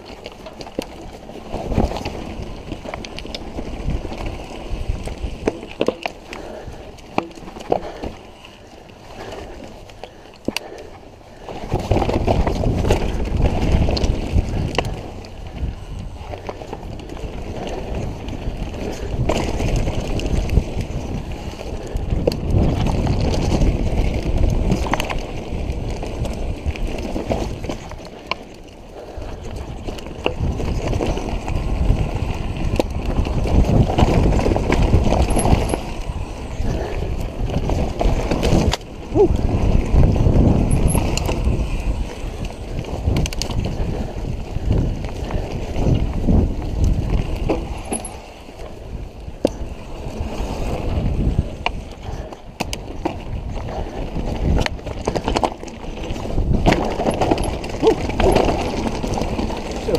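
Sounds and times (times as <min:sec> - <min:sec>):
bike knocking and rattling: 0:00.0 - 0:59.9
bike tyres rumbling on rocky dirt: 0:00.0 - 0:59.9
wind buffeting microphone: 0:00.9 - 0:59.9.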